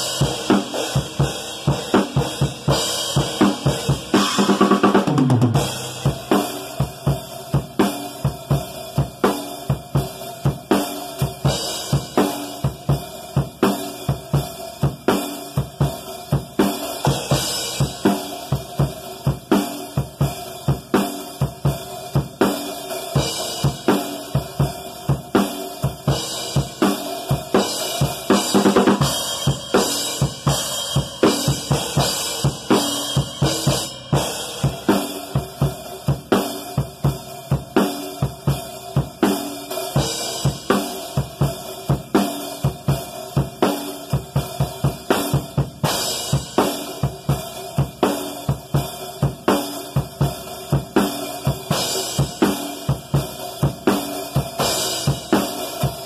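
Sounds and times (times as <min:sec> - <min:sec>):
acoustic drum kit groove: 0:00.0 - 0:56.0.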